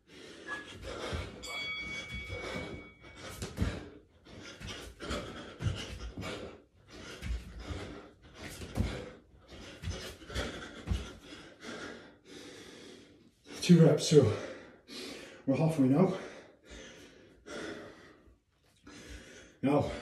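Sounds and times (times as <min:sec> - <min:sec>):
man panting hard: 0:00.0 - 0:20.0.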